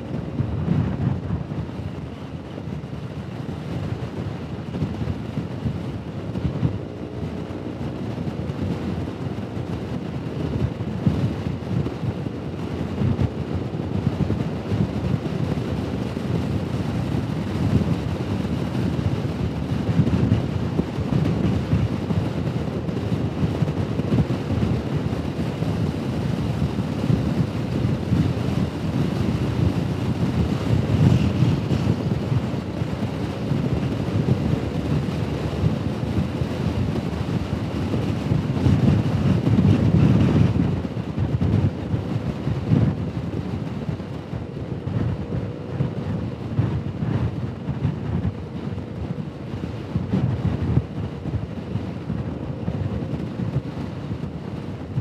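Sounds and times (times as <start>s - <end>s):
wind rumbling over microphone: 0.0s - 55.0s.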